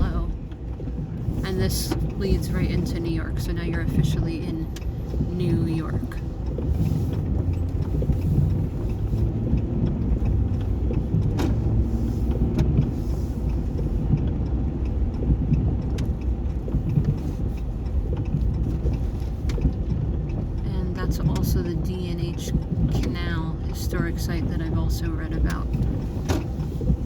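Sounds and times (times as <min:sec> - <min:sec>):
car interior rumble: 0:00.0 - 0:27.0.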